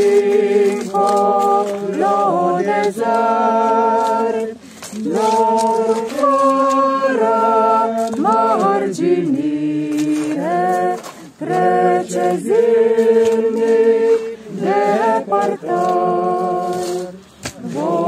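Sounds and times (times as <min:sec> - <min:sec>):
voices singing a hymn in harmony: 0:00.0 - 0:18.0.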